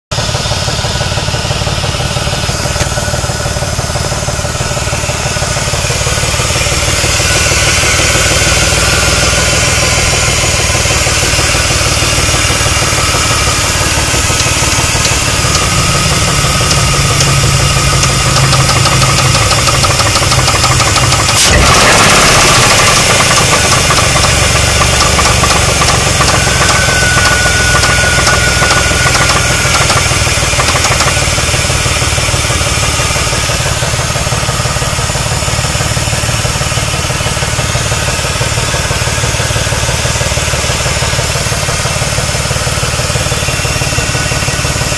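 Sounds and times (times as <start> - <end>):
car engine knocking: 0.1 - 44.9.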